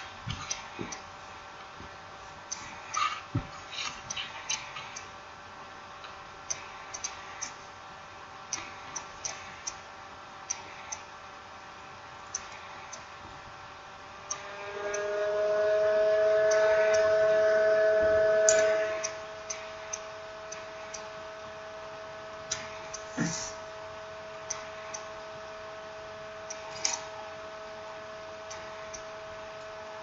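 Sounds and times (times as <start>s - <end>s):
steady humming tone: 0.0s - 30.0s.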